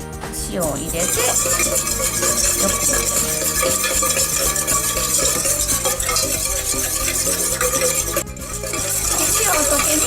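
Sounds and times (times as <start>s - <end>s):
stirring dressing in a bowl: 0.7s - 10.0s.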